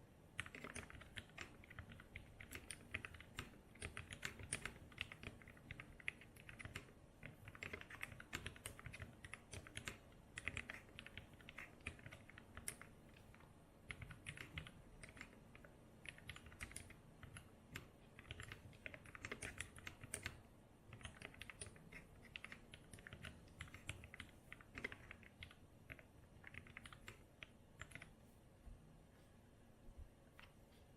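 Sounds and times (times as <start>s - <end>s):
typing on mechanical keyboard: 0.3s - 28.1s.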